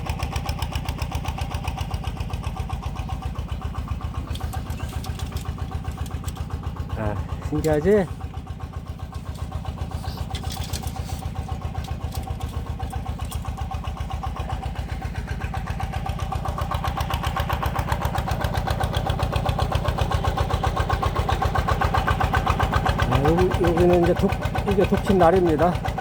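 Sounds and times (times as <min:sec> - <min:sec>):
tiller engine chugging: 0:00.0 - 0:26.0.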